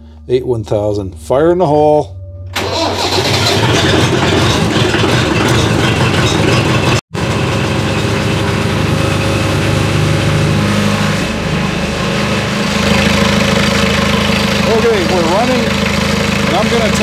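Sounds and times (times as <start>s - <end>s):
diesel tractor engine running: 2.5s - 17.0s.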